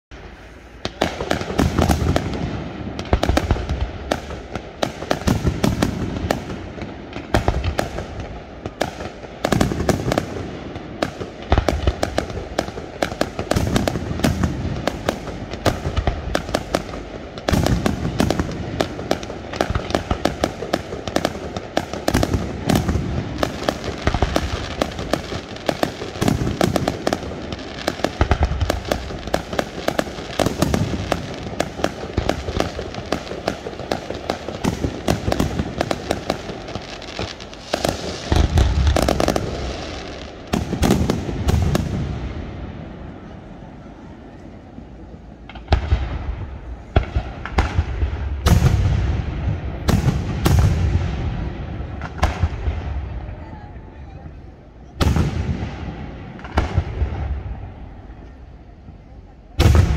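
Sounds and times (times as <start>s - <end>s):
fireworks bursting and crackling: 0.1s - 59.9s
heavy firework booms: 0.2s - 43.5s, 45.4s - 53.5s, 55.0s - 57.9s, 59.6s - 59.9s.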